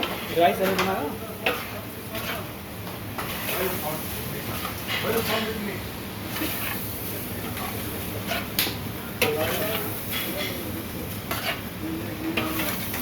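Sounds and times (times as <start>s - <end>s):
metal spatula scraping a pan: 0.0s - 2.5s, 3.2s - 5.6s, 6.2s - 8.6s, 9.2s - 11.7s, 12.3s - 13.0s
food sizzling in a frying pan: 0.0s - 13.0s.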